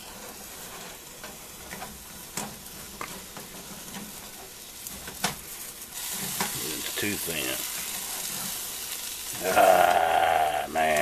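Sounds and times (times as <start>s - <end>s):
omelet sizzling in a frying pan: 0.0s - 11.0s.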